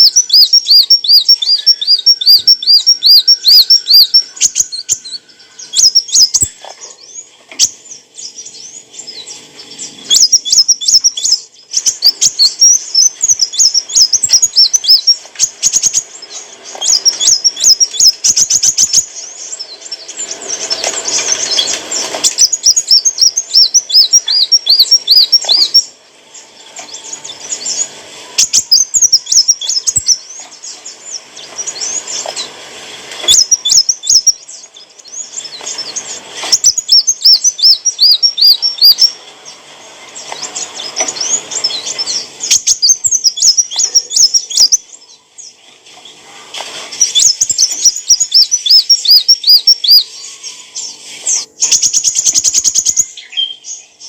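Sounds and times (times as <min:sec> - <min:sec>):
sunbird chirping song: 0:00.0 - 0:54.0.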